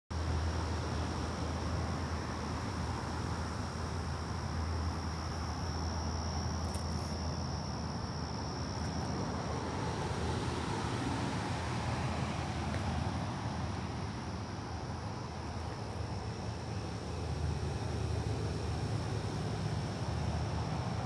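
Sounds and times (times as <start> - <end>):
crickets chirring: 0.2 - 21.0.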